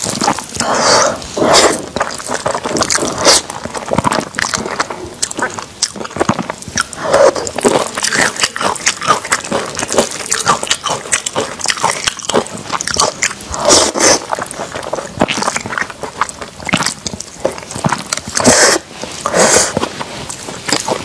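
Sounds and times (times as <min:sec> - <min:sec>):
slurping noodles: 0:00.0 - 0:21.0
wet chewing of noodles: 0:00.0 - 0:21.0.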